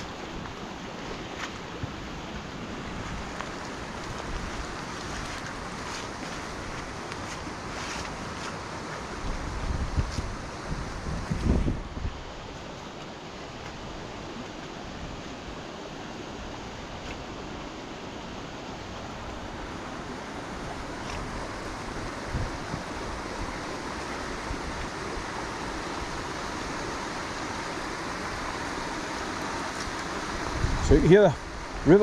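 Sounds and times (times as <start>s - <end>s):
river rushing: 0.0s - 32.0s.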